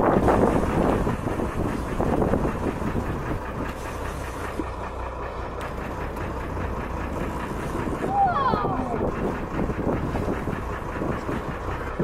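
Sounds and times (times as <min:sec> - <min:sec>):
boat engine idling: 0:00.0 - 0:12.0
water noise: 0:00.0 - 0:12.0
wind: 0:00.0 - 0:12.0.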